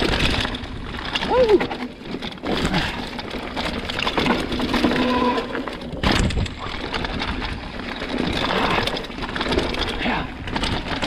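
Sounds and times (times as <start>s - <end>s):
bike tyres on dirt: 0.0s - 11.0s
chain and frame rattling: 0.0s - 11.0s.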